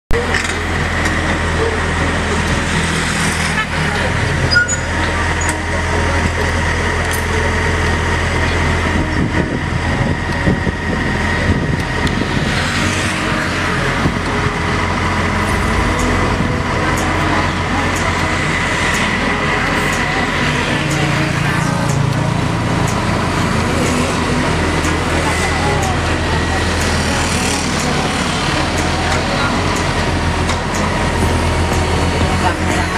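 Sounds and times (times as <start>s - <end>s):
excavator running with high whine: 0.1s - 32.9s
vehicle passing: 0.2s - 32.9s.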